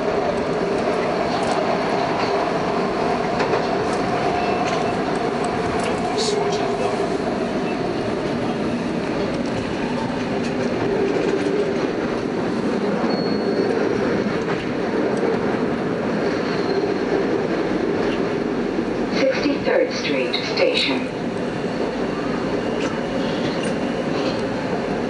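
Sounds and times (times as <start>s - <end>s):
train car hum: 0.0s - 25.0s
train wheels on rails: 0.0s - 25.0s.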